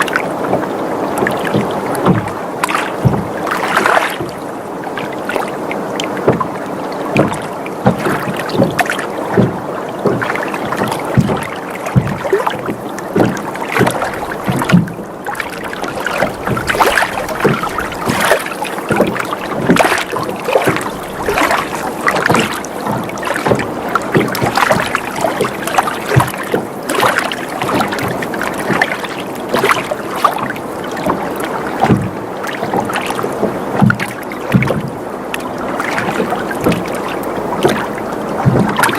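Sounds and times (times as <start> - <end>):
boat creaking and knocking: 0.0 - 38.9
water sloshing against hull: 0.0 - 38.9.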